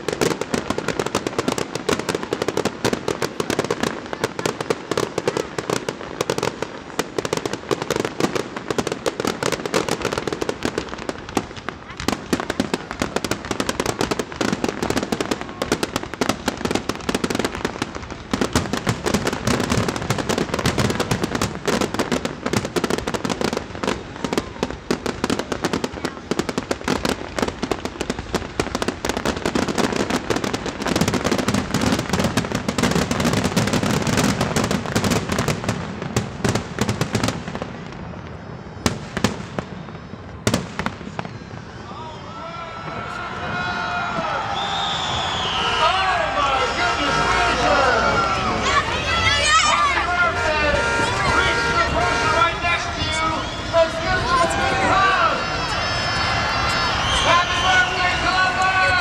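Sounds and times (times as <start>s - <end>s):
fireworks launching and bursting: 0.0s - 42.0s, 42.8s - 59.0s.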